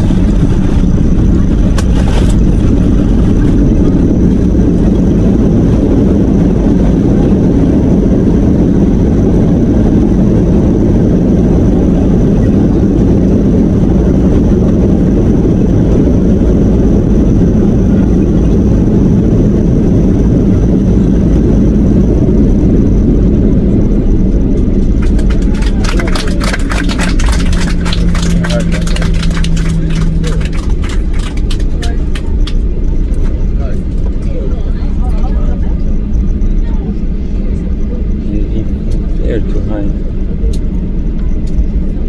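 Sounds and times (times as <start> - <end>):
airplane engine noise: 0.0 - 42.0
wheel rumble on runway: 0.0 - 42.0.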